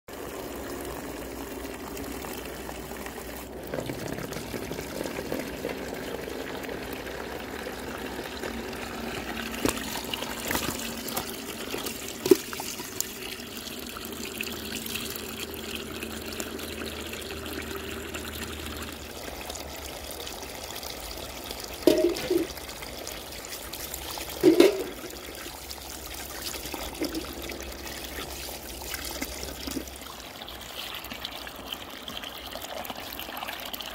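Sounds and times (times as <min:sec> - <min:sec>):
water pouring and splashing: 0:00.1 - 0:33.9.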